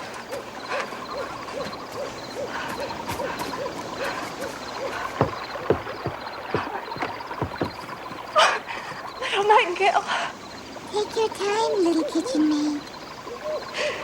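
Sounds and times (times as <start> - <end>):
soft repeated hooting calls: 0.0 - 14.0.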